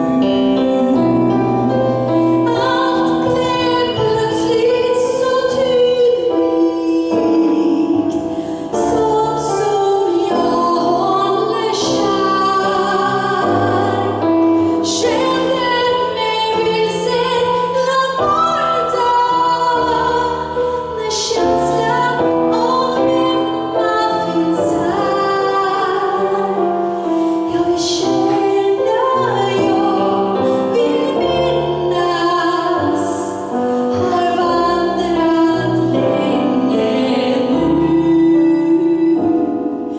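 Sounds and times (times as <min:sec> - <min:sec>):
piano: 0:00.0 - 0:39.9
woman singing jazz: 0:00.0 - 0:39.9.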